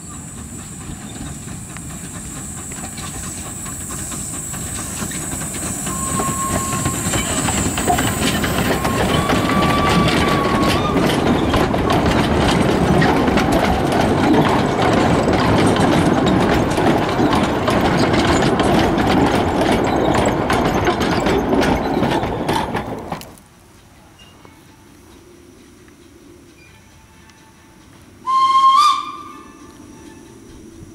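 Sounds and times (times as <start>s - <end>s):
train wagons clattering on track: 0.0s - 30.9s.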